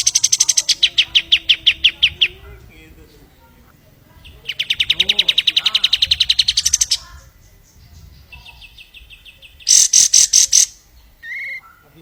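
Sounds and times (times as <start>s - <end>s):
songbird trilling and chirping: 0.0s - 12.0s.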